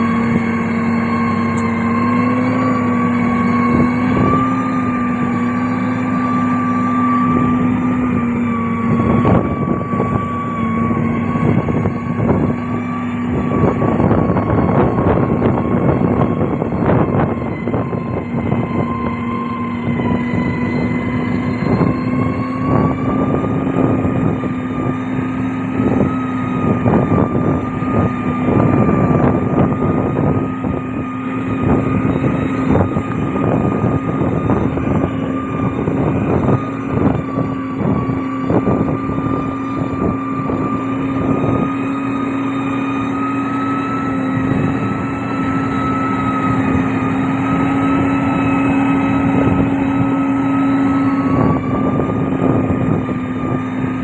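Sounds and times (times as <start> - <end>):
diesel engine humming and whining: 0.0 - 54.0.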